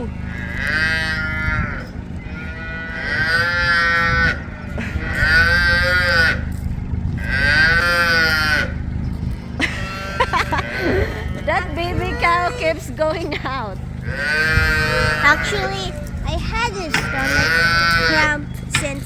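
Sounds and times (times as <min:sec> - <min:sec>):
calves mooing: 0:00.0 - 0:18.8
steady low hum: 0:00.0 - 0:19.0.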